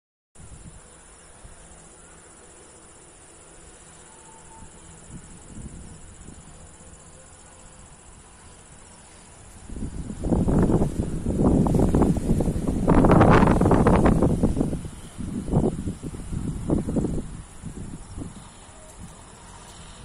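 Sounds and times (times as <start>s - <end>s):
insects trilling: 0.4s - 20.0s.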